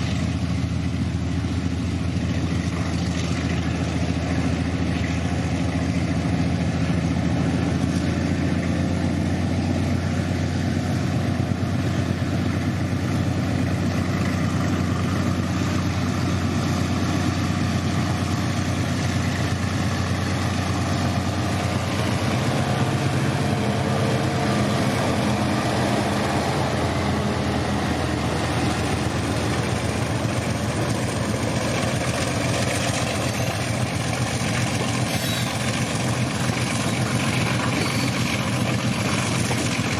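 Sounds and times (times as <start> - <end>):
diesel locomotive engines droning: 0.0 - 39.9.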